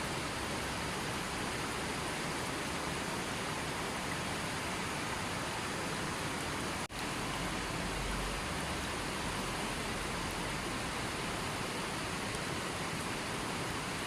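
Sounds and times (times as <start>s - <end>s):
hiss of falling water: 0.0s - 14.0s.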